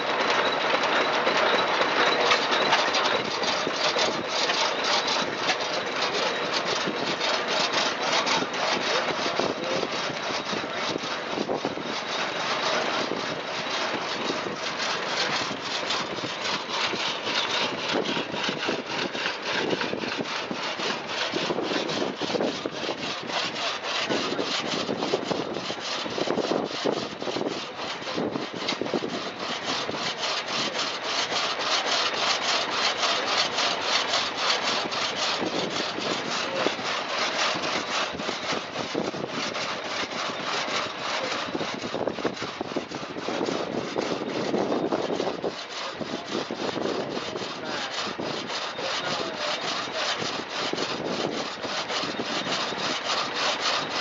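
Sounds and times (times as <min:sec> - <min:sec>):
saw rasping through log: 0:00.0 - 0:54.0.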